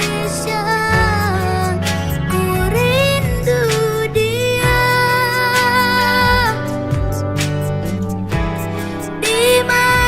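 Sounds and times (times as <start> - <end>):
slow pop ballad: 0.0 - 10.0.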